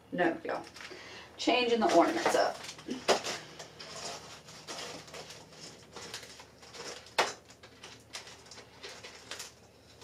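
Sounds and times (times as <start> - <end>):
plastic packaging crackling: 0.6 - 1.0, 1.6 - 10.0.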